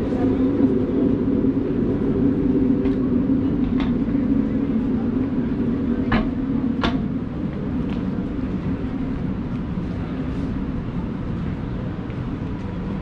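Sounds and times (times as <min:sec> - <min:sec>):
low engine hum: 0:00.0 - 0:13.0
traffic engine rumble: 0:00.0 - 0:13.0.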